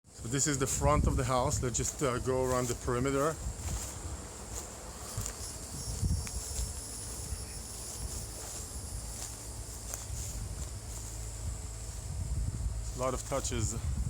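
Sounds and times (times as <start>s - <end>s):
high-pitched insect chorus: 0.1s - 14.0s
wind rumble on microphone: 0.1s - 14.0s.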